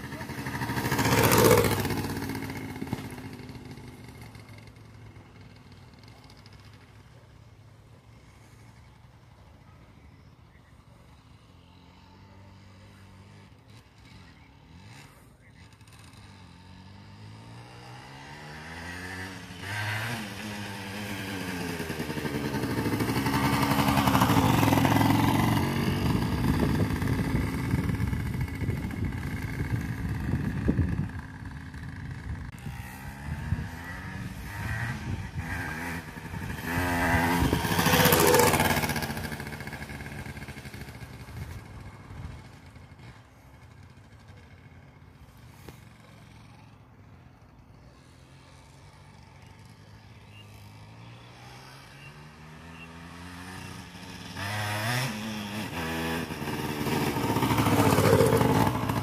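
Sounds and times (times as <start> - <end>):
two-stroke motorcycle engine revving: 0.0 - 7.1, 11.1 - 59.0.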